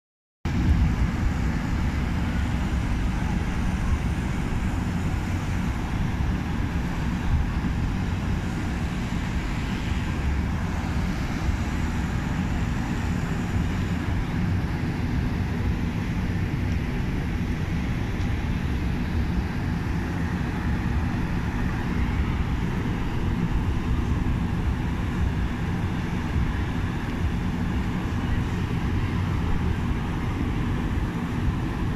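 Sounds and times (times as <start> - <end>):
outdoor background hiss: 0.5 - 31.9
wind buffeting microphone: 0.5 - 31.9.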